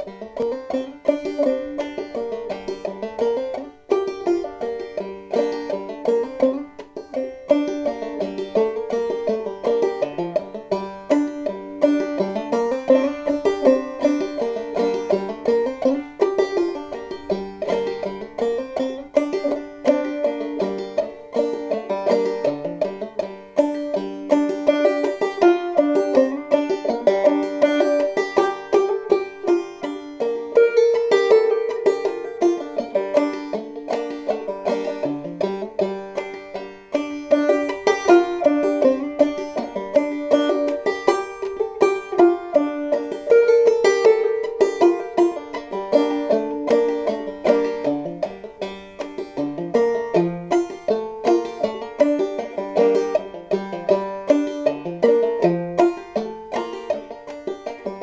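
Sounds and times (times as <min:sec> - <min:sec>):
banjo plucked melody: 0:00.0 - 0:58.0.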